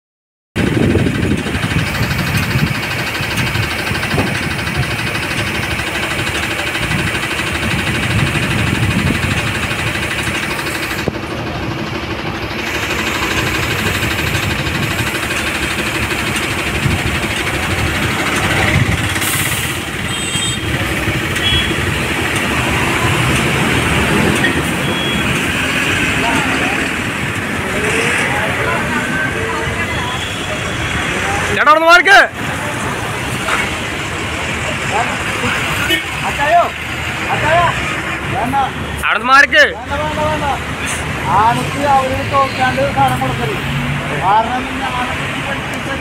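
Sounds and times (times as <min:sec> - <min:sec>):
lorry engine idling: 0:00.6 - 0:46.0.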